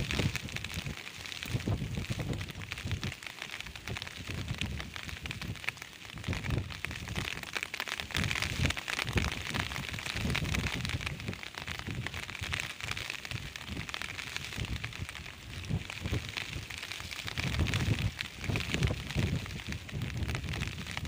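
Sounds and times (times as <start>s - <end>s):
wind buffeting microphone: 0.0s - 7.4s, 8.0s - 21.0s
steady crackling hiss: 0.0s - 21.0s.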